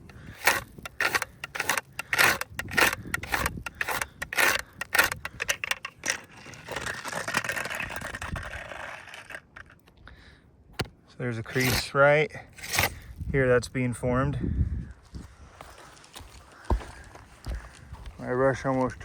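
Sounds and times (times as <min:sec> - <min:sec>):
stiff brush scraping shingle: 0:00.0 - 0:09.8, 0:10.8 - 0:13.2, 0:15.6 - 0:19.0.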